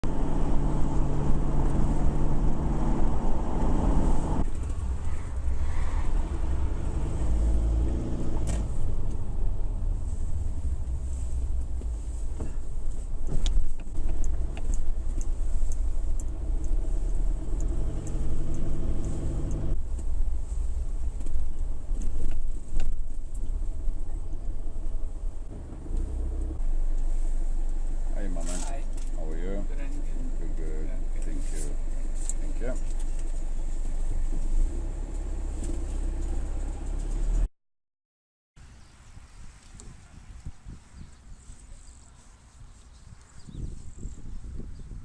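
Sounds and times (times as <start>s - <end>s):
motor vehicle engine rumbling: 0.0s - 37.5s.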